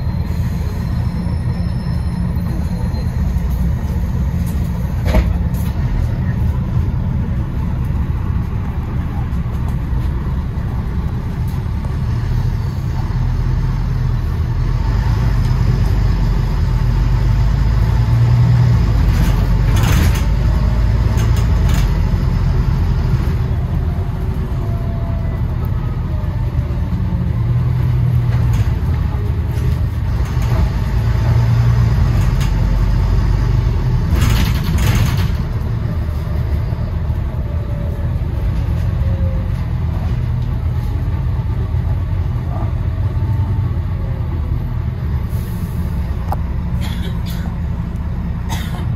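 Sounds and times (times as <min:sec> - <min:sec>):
bus engine rumbling: 0:00.0 - 0:48.9.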